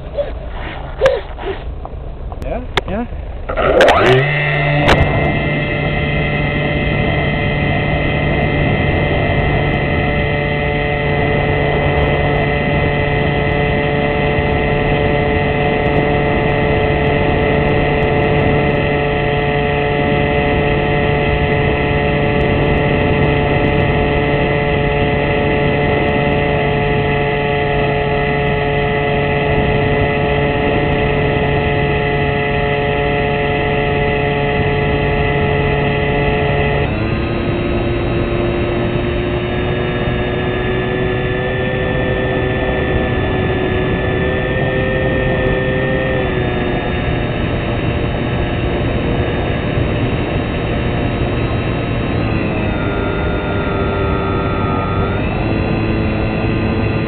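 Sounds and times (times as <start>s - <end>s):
model plane motor and propeller: 0.0s - 57.0s.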